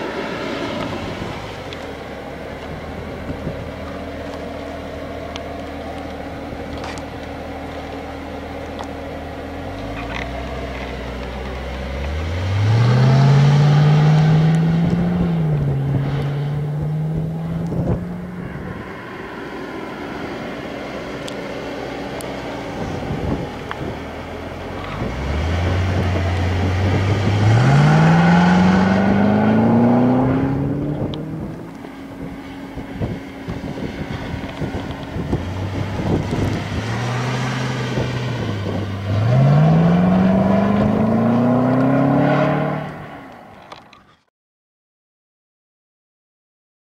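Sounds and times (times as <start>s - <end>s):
car engine accelerating hard: 0.0s - 44.0s.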